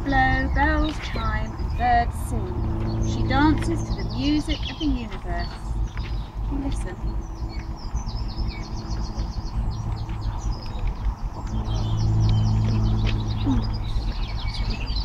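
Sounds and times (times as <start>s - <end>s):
birds chirping in trills: 0.0s - 15.0s
low steady hum: 0.0s - 15.0s.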